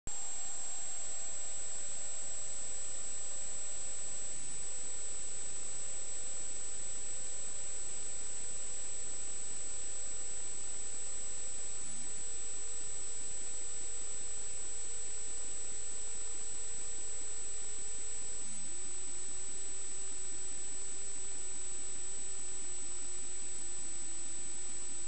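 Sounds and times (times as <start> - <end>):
high-pitched whine: 0.1 - 25.0
steady recording hiss: 0.1 - 25.0.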